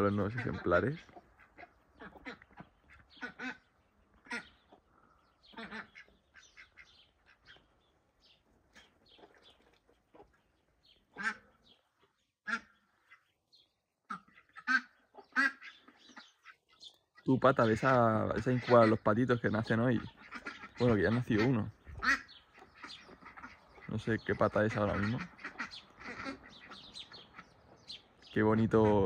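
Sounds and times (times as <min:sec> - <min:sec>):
ducks quacking: 0:00.0 - 0:29.0.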